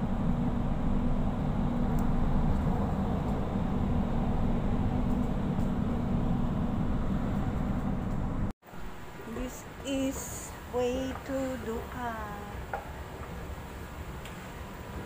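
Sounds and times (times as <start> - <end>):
constant hum: 0.0 - 15.0
metro train rumbling: 0.0 - 15.0.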